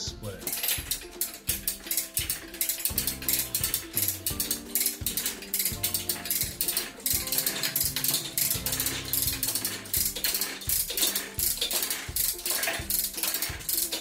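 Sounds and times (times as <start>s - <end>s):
background music: 0.0s - 14.0s
ratchet clicking: 0.5s - 14.0s.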